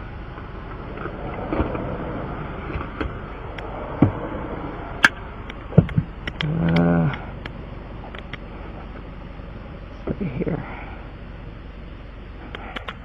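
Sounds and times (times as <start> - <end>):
background rumble: 0.0 - 13.0.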